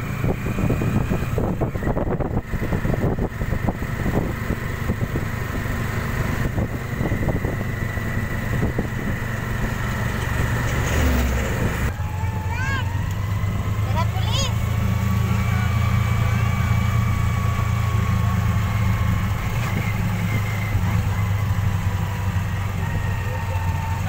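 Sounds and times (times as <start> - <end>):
small vehicle engine running: 0.0 - 24.0.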